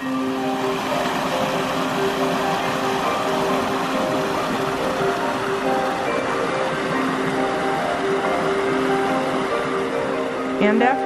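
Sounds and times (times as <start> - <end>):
slow background music: 0.0 - 11.0
stream rushing over rocks: 0.0 - 11.0.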